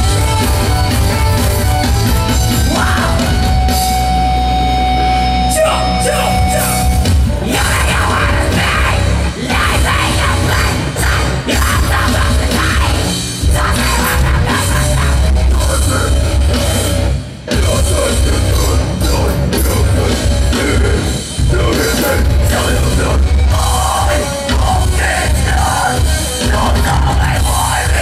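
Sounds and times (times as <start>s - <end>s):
distorted electric guitars: 0.0s - 28.0s
drum kit: 0.0s - 28.0s.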